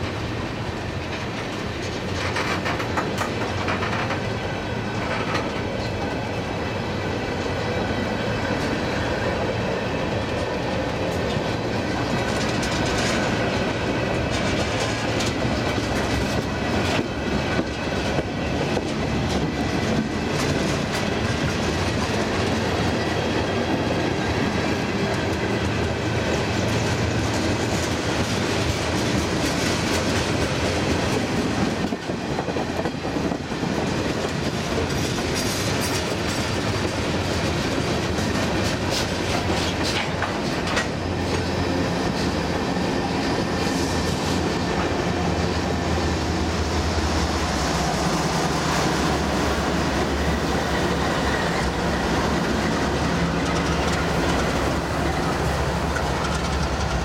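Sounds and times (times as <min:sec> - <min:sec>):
diesel locomotive rumble: 0:00.0 - 0:57.0
train wheels clacking on rails: 0:00.0 - 0:57.0.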